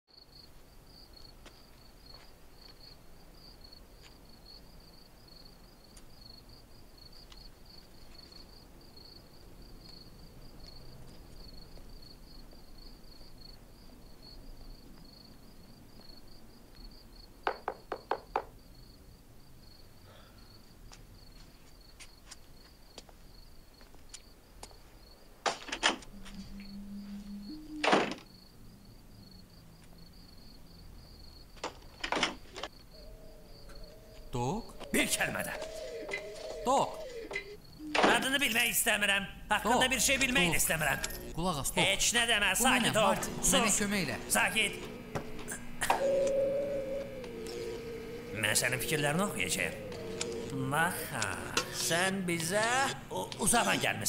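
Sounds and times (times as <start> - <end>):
crickets chirping: 0.1 - 54.0.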